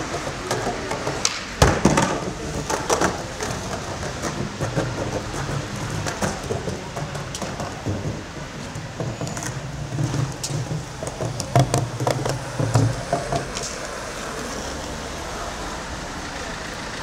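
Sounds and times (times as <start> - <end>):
skateboard clicks and knocks: 0.0 - 15.4
skateboard wheels rumbling on stone: 0.0 - 17.0.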